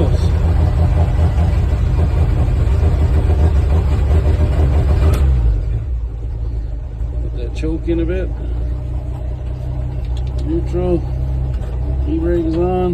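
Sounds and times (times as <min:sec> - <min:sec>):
truck engine rumbling: 0:00.0 - 0:12.9.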